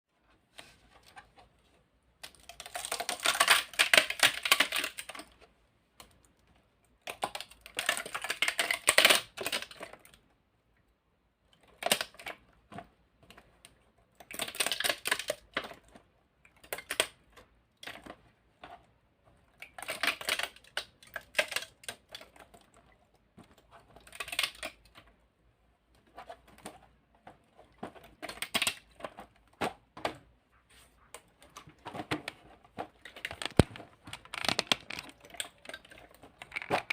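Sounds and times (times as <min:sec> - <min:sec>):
plastic segments clicking and clattering: 0:02.2 - 0:10.3, 0:11.5 - 0:18.8, 0:19.6 - 0:25.2, 0:26.0 - 0:30.2, 0:31.4 - 0:36.9.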